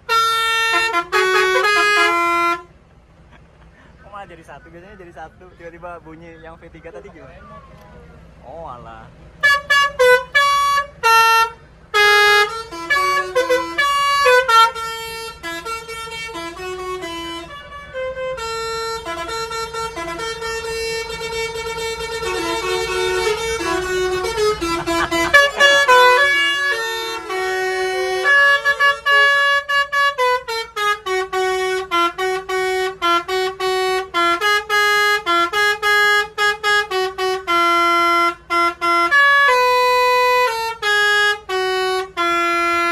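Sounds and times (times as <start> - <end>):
bus air horns playing a melody: 0.0 - 3.0, 9.2 - 42.9.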